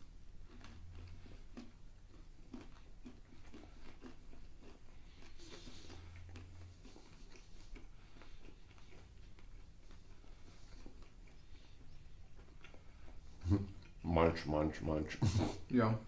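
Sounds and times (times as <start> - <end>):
faint chewing crunches: 0.0 - 15.0.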